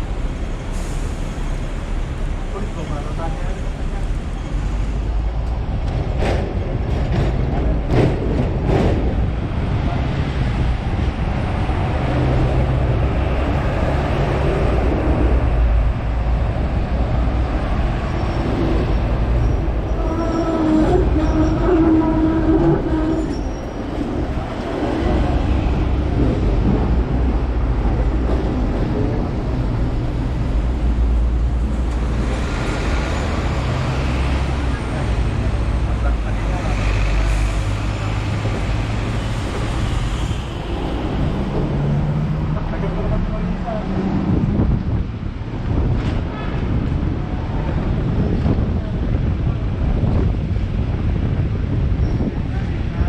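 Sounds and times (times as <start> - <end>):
tram wheels and motors rumbling: 0.0 - 53.0.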